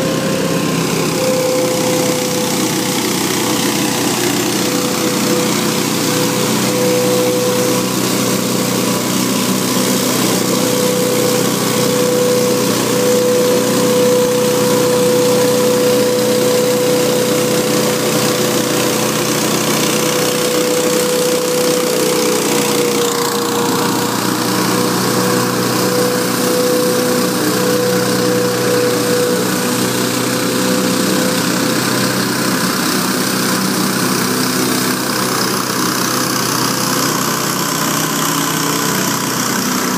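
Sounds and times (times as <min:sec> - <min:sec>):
leaf blower running: 0:00.0 - 0:39.9.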